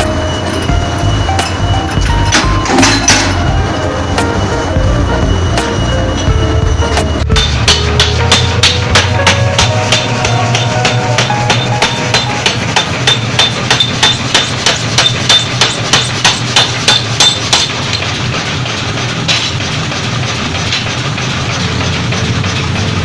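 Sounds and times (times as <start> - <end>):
forging hammer striking metal: 0.0 - 23.0
machine humming: 0.0 - 23.0.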